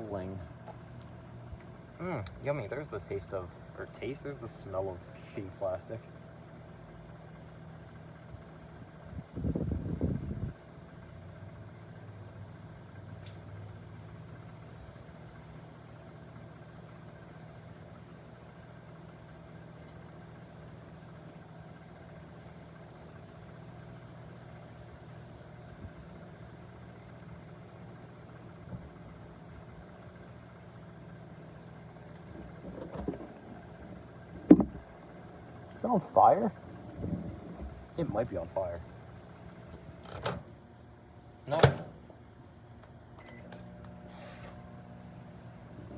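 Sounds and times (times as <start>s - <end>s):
microwave oven humming: 0.0s - 45.9s.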